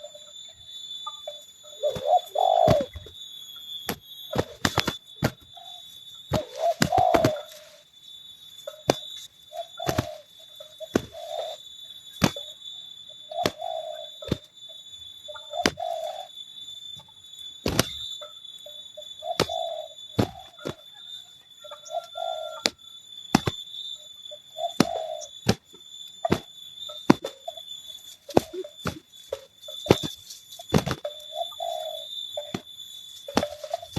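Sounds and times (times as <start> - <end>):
doves cooing: 0.0 - 3.2, 3.9 - 7.9, 8.6 - 14.5, 15.2 - 16.4, 17.6 - 23.6, 24.2 - 25.6, 26.2 - 33.9.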